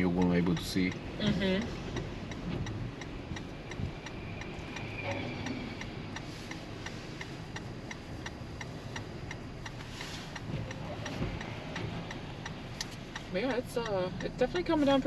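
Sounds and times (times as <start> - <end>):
road and engine rumble: 0.0 - 15.0
turn signal ticking: 0.0 - 15.0.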